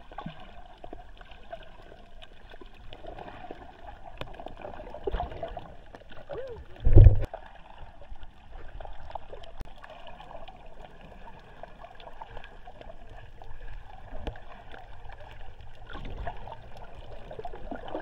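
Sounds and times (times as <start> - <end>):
small clicks and crackles: 0.0 - 18.0
water gurgling underwater: 0.0 - 18.0.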